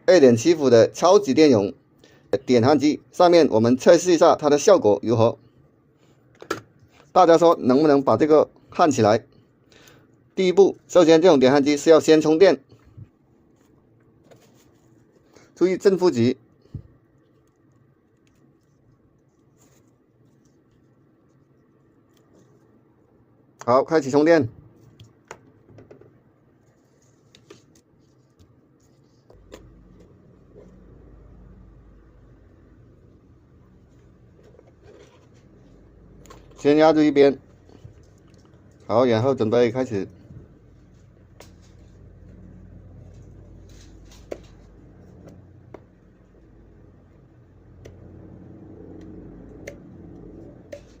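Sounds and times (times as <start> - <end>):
low steady hum: 1.6 - 51.0.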